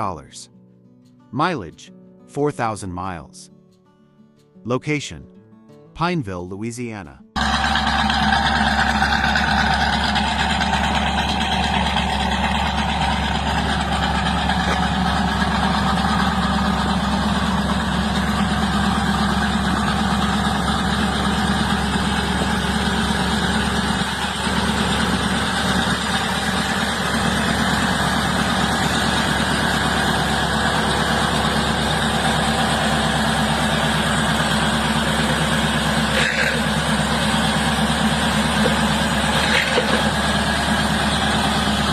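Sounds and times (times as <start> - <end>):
car engine idling: 7.4 - 41.9.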